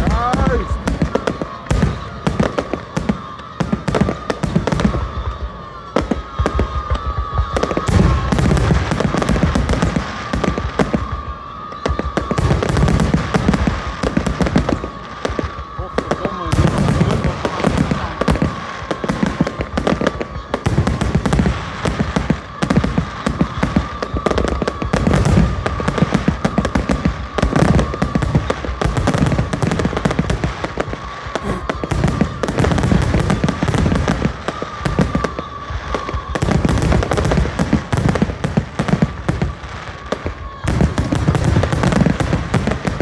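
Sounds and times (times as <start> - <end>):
deep fireworks booms: 0.0 - 43.0
fireworks bangs and crackles: 0.0 - 43.0.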